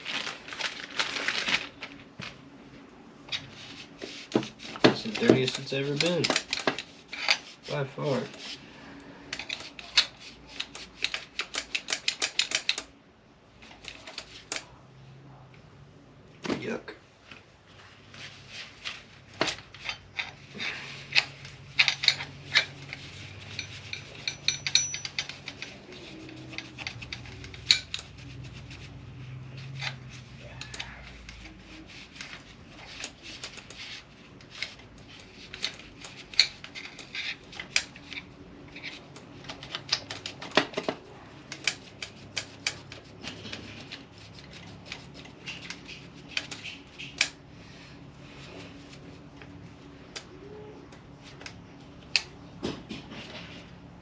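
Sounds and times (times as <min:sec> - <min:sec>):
hand tools clicking and scraping: 0:03.2 - 0:13.0, 0:13.6 - 0:14.8, 0:18.2 - 0:53.7.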